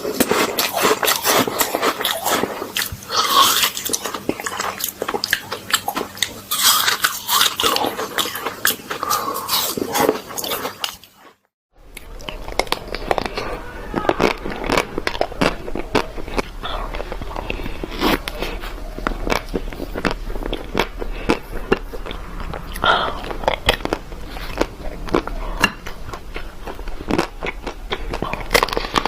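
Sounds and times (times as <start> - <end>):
crunchy chewing of ice cream: 0.0 - 29.0.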